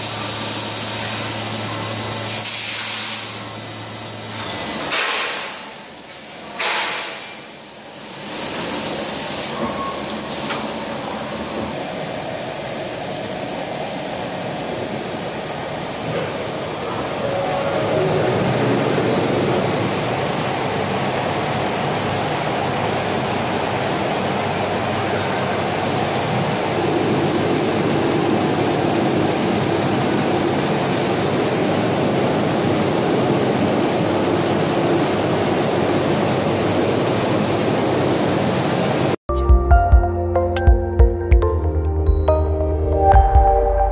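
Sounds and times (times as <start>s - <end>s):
industrial machinery hiss and hum: 0.0s - 39.2s.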